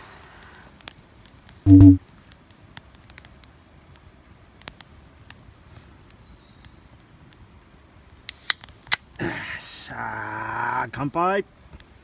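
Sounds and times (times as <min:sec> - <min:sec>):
wood fire crackling: 0:00.1 - 0:12.0.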